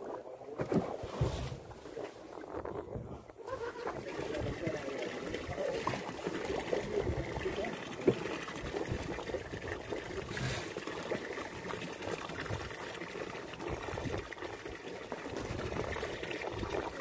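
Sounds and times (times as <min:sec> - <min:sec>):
water lapping against boat: 0:00.0 - 0:17.0.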